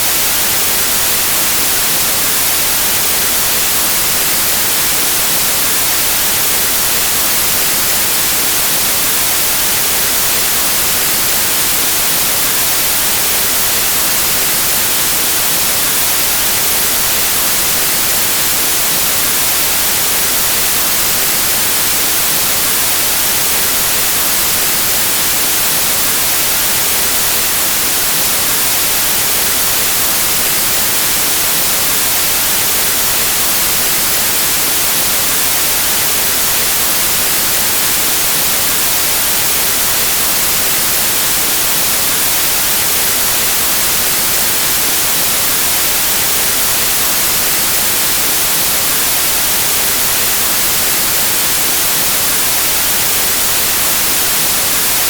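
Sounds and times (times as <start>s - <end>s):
white noise static hiss: 0.0s - 55.0s.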